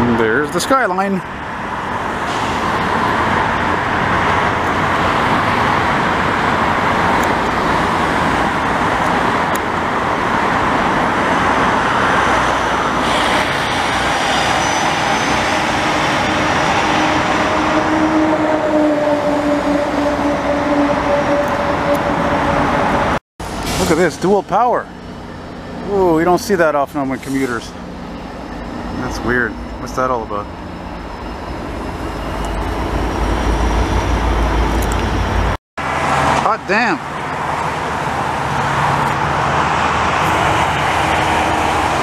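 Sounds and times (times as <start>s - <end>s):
train rolling: 0.0s - 36.4s
road traffic roar: 0.0s - 42.0s
steady engine hum: 0.0s - 42.0s.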